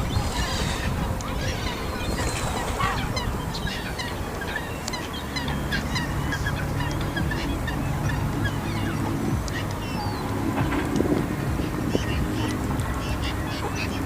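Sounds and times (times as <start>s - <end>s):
gulls calling: 0.0s - 14.0s
low steady hum: 0.0s - 14.0s.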